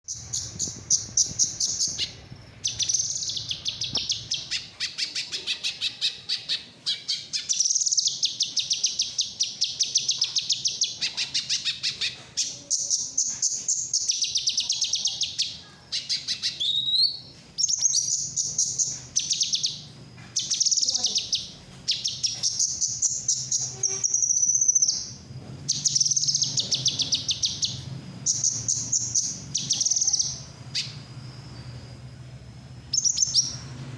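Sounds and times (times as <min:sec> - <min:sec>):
songbird chattering trills: 0:00.1 - 0:32.0, 0:32.9 - 0:33.8.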